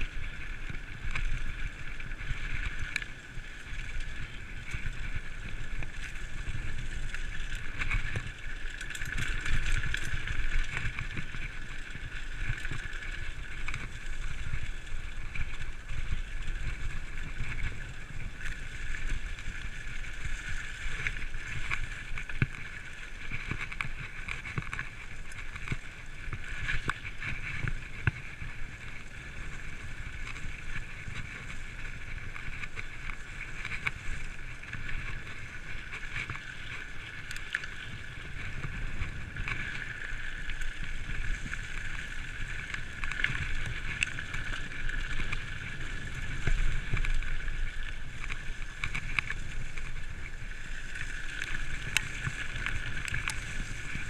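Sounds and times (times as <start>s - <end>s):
bike rattling over bumps: 0.0s - 54.0s
bike tyre and drivetrain rumble: 0.0s - 54.0s.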